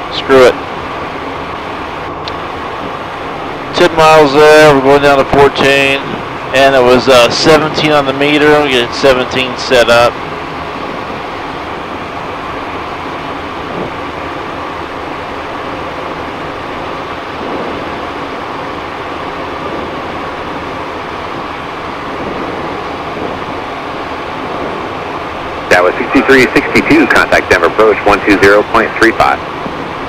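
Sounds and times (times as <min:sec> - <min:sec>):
airflow rush in jet cockpit: 0:00.0 - 0:30.0
jet engine hum: 0:00.0 - 0:30.0.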